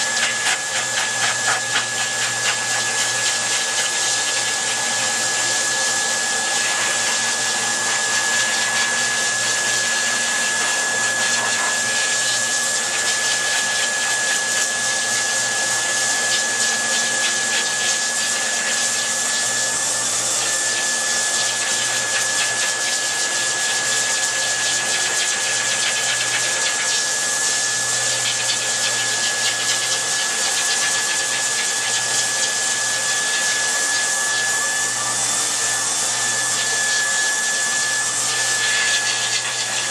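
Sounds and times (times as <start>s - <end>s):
high motor whine: 0.0s - 25.6s, 26.2s - 39.9s
pet dryer blowing: 0.0s - 39.9s.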